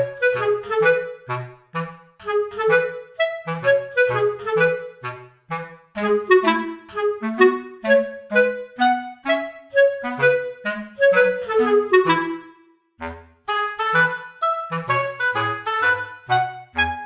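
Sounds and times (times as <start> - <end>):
bouncy instrumental tune: 0.0 - 17.0.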